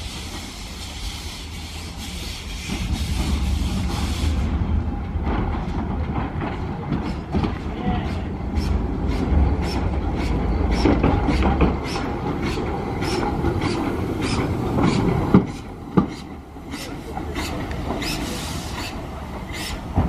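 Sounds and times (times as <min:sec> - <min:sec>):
steam locomotive exhaust chuffing: 0:00.0 - 0:20.0.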